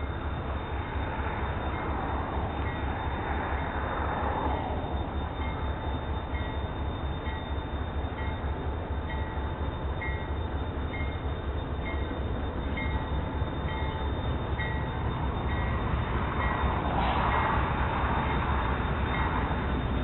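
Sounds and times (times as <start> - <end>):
railroad crossing bell ringing: 0.0 - 20.0
train rumbling past: 0.0 - 20.0.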